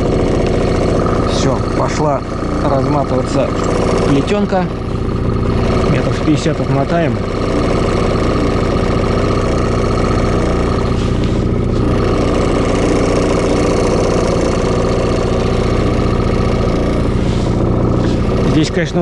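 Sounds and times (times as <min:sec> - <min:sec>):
outboard motor droning: 0:00.0 - 0:19.0.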